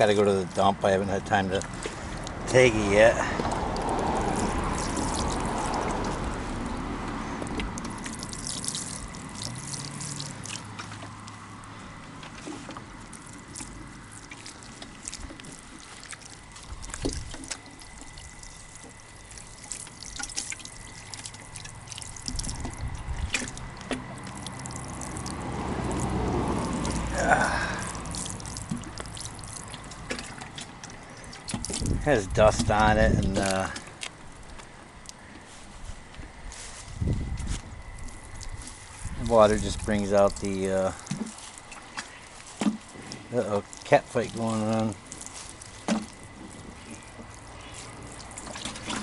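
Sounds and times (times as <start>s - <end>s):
water trickling off stone: 0.0s - 35.2s, 37.4s - 49.0s.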